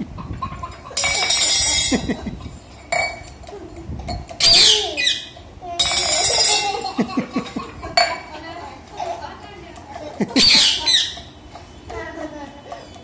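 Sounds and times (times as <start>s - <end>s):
steel tumbler clattering on tiles: 0.4s - 4.5s, 5.8s - 13.0s.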